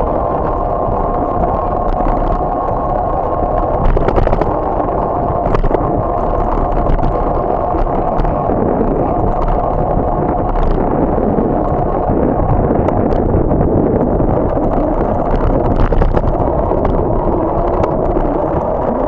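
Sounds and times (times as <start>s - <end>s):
bicycle road rumble: 0.0s - 19.0s
wind on microphone: 0.0s - 19.0s.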